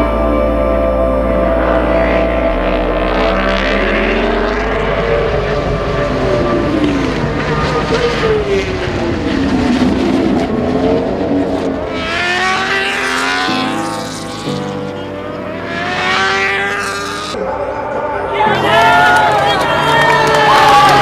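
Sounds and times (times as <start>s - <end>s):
racing motorcycles at full throttle: 0.0s - 21.0s.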